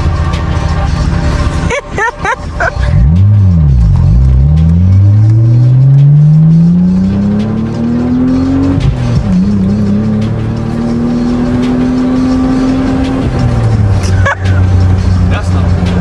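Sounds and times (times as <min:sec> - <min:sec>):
car exhaust accelerating: 0:00.0 - 0:16.0.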